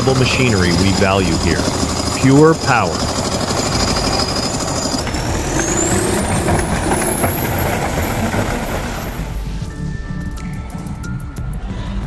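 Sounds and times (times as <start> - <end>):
diesel engine running rough: 0.0 - 9.7
high engine whine: 0.0 - 10.7.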